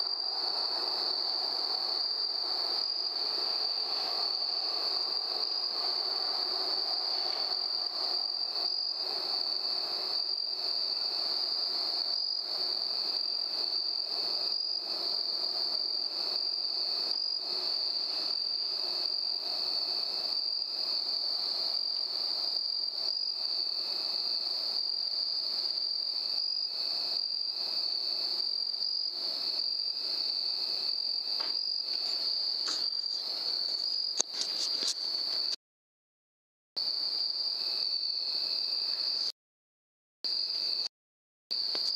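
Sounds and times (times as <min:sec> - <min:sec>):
crickets chirring: 0:00.0 - 0:35.6, 0:36.8 - 0:39.3, 0:40.3 - 0:40.9, 0:41.5 - 0:41.9.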